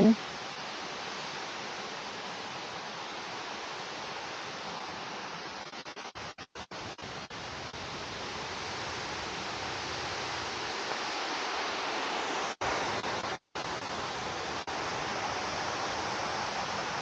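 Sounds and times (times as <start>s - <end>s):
water cascading over waterfall: 0.0s - 17.0s.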